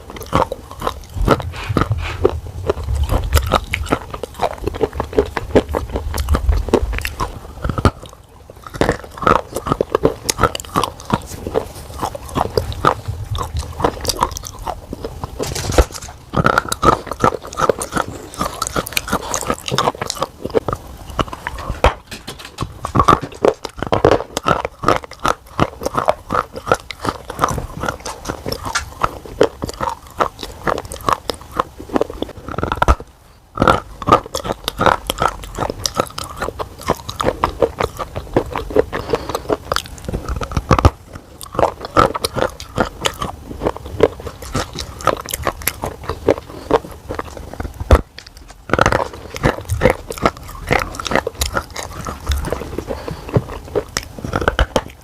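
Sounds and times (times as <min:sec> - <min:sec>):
crunchy food being chewed: 0:00.0 - 0:55.0.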